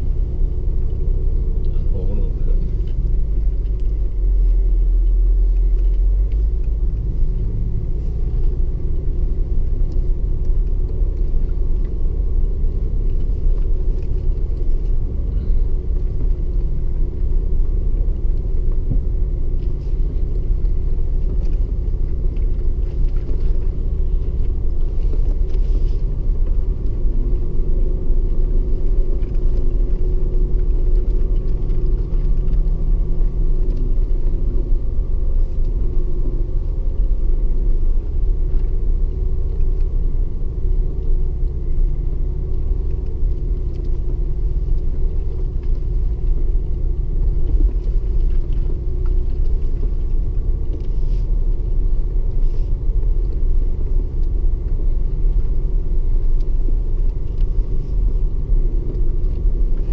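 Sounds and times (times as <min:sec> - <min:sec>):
diesel engine rumble: 0:00.0 - 0:59.9.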